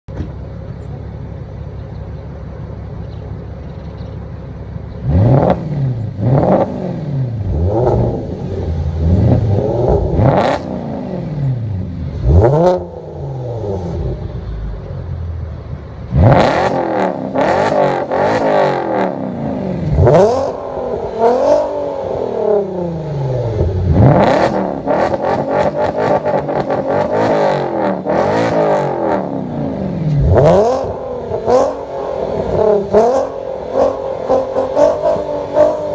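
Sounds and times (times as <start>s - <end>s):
car engine revving: 4.8s - 35.9s.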